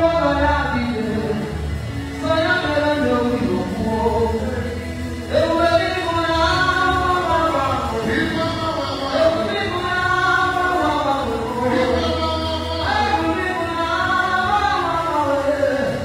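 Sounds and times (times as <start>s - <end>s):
low instrumental bass: 0.0s - 16.0s
woman singing into microphone: 0.0s - 16.0s.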